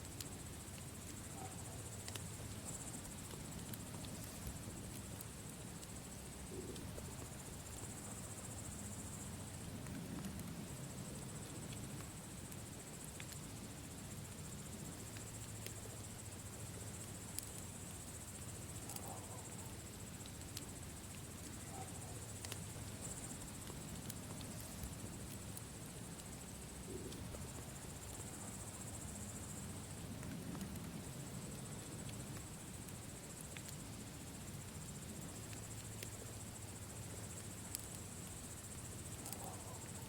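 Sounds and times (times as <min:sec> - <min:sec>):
campfire crackling and popping: 0:00.0 - 0:40.0
low fire rumble: 0:00.0 - 0:40.0.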